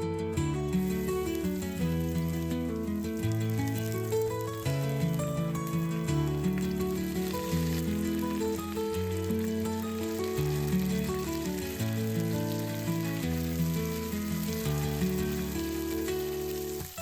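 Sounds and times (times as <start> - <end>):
instrumental background music: 0.0 - 17.0
food frying in oil: 0.4 - 17.0.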